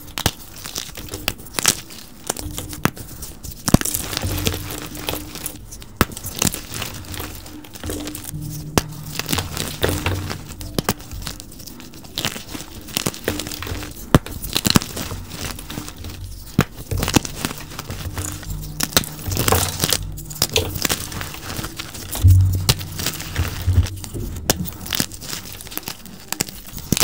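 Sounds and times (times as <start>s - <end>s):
chalk crunching and cracking: 0.0s - 27.0s.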